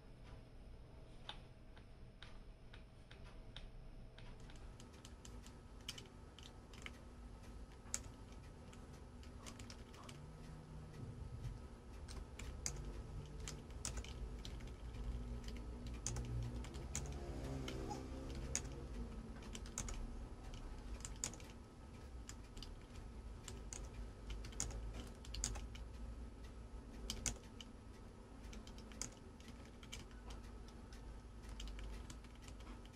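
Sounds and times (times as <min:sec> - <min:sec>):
computer keyboard keys clicking: 0:03.1 - 0:10.6, 0:11.5 - 0:26.0, 0:27.0 - 0:27.8, 0:28.4 - 0:32.9.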